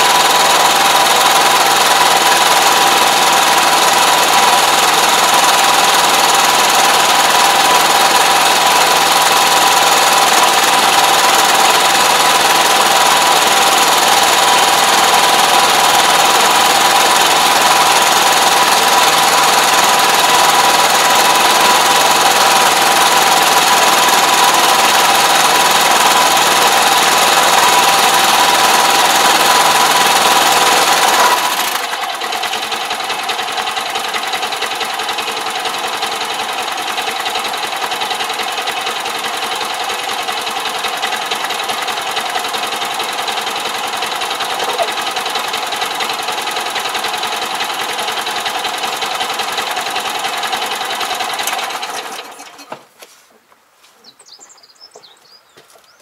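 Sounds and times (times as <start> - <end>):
tractor engine running: 0.0 - 53.2.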